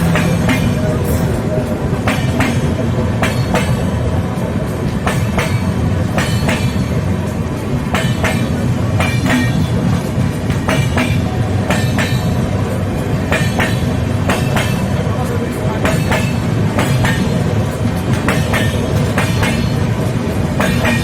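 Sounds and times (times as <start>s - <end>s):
train rumble: 0.0s - 21.0s
wheels clacking over rail joints: 0.0s - 21.0s.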